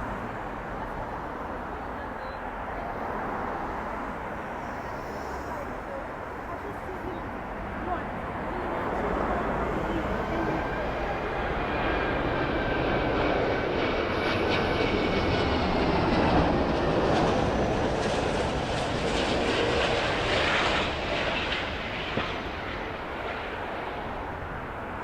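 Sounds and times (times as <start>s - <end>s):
jet engines roaring: 2.8s - 25.0s.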